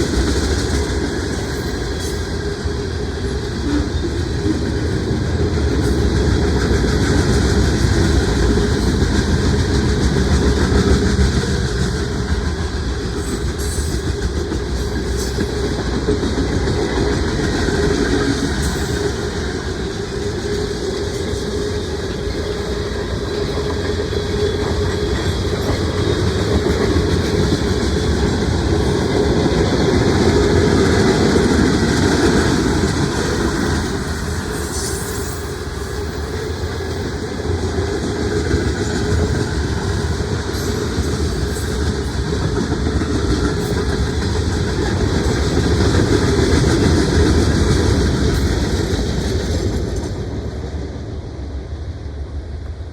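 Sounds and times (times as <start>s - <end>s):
wheels clattering on rails: 0.0s - 50.5s
freight train rumbling: 0.0s - 52.9s.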